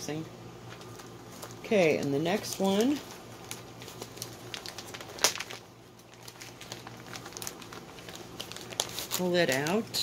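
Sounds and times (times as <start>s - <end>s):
plastic packaging crinkling: 0.6s - 10.0s.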